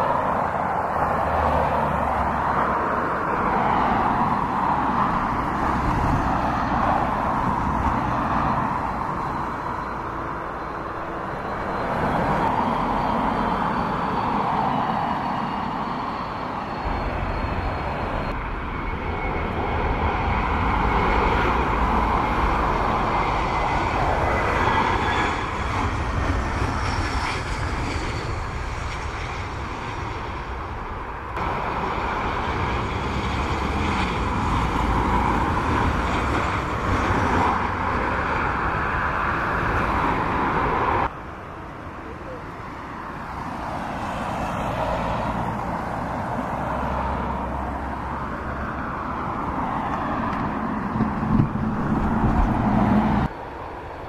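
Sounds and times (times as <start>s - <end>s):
jet airliner landing: 0.0s - 54.0s
jet airliner taxiing whine: 0.0s - 54.0s.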